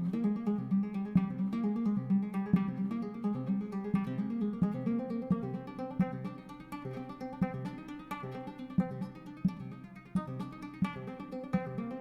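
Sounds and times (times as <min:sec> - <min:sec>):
flamenco acoustic guitar: 0:00.0 - 0:12.0.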